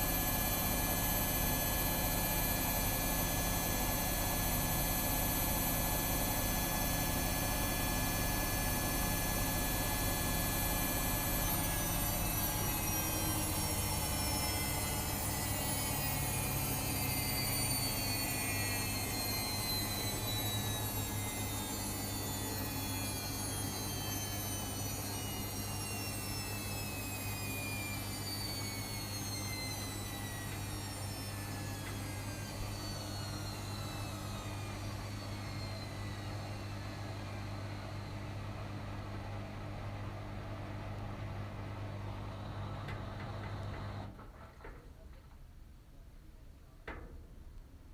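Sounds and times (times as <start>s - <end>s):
washing machine drum spinning down: 0.0s - 44.4s.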